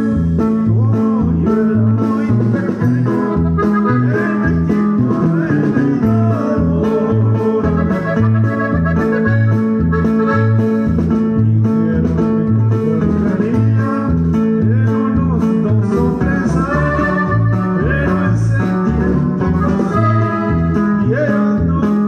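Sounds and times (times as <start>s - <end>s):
bouncing bass: 0.0s - 22.0s
reedy organ-like melody: 0.0s - 22.0s.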